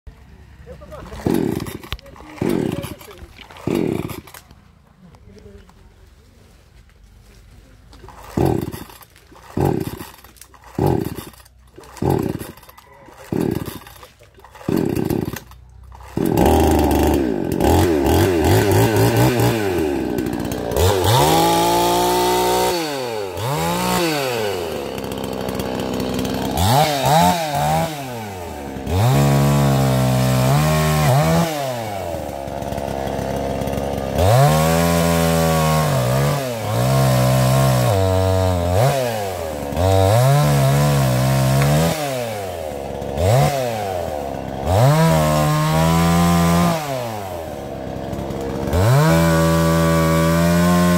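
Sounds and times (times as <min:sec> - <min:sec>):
chainsaw engine revving: 0:00.5 - 0:04.6, 0:07.9 - 0:50.9
chainsaw cord pulls: 0:00.9 - 0:04.6, 0:07.9 - 0:50.9.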